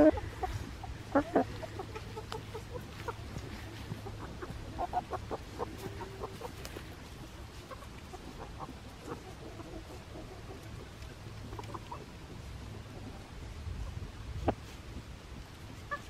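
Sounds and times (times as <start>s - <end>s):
hen clucking: 0.0s - 13.3s, 15.8s - 16.0s.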